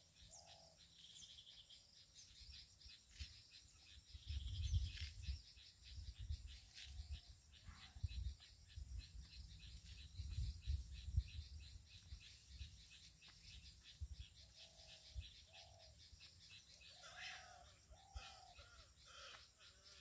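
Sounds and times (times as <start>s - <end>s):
faint bird calls: 0.0s - 20.0s.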